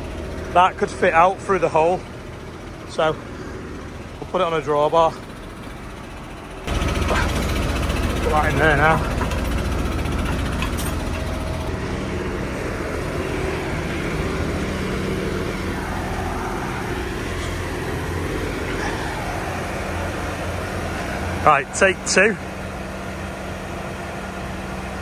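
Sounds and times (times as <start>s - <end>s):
diesel tractor engines idling: 0.0s - 25.0s.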